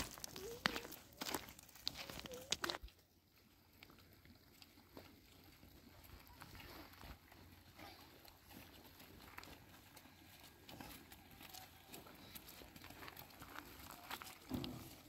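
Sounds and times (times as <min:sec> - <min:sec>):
footsteps on stony ground: 0:00.0 - 0:15.0.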